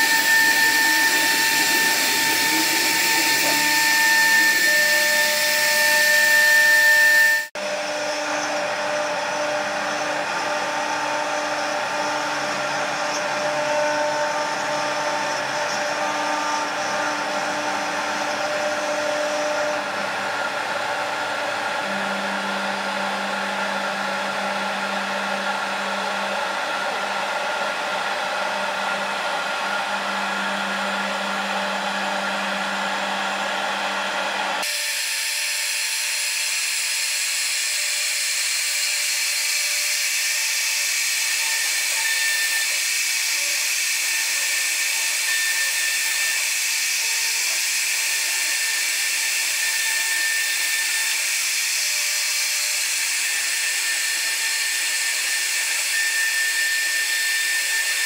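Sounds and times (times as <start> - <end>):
wood router machine whine: 0.0 - 58.0.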